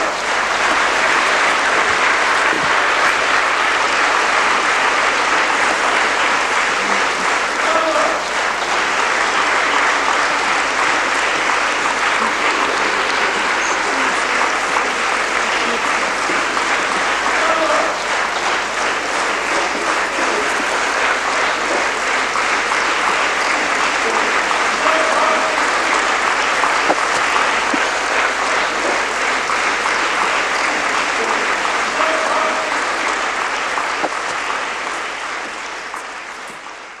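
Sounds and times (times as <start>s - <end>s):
audience applauding: 0.0s - 37.0s.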